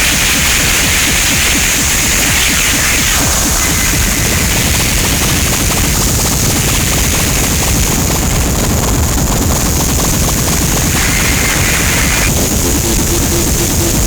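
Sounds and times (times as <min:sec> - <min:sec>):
loud steady wall of noise: 0:00.0 - 0:14.0.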